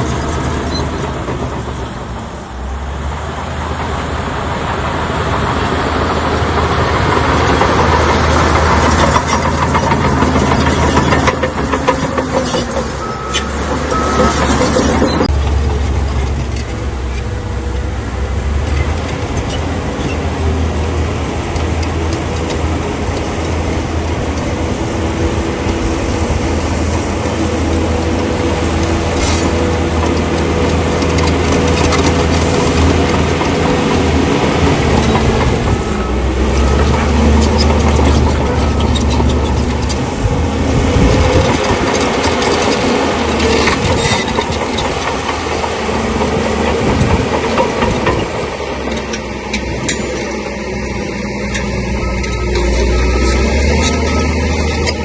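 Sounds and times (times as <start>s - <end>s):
bulldozer diesel engine: 0.0s - 55.0s
bulldozer tracks: 0.0s - 55.0s.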